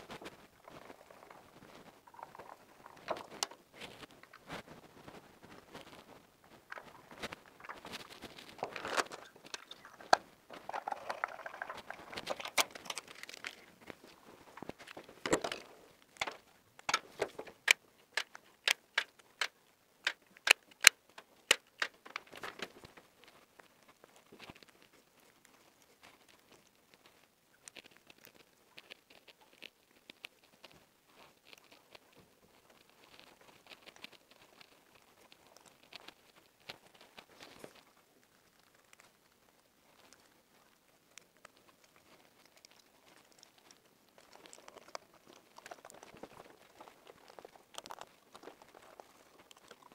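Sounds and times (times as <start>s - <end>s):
wires rustling and crackling: 0.0s - 49.9s.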